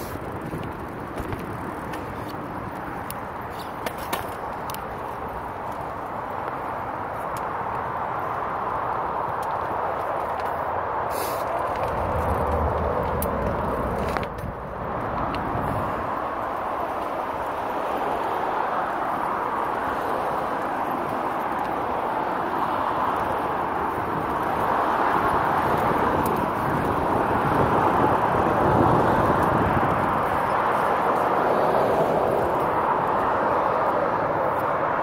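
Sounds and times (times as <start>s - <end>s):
bicycle riding rushing noise: 0.0s - 35.0s.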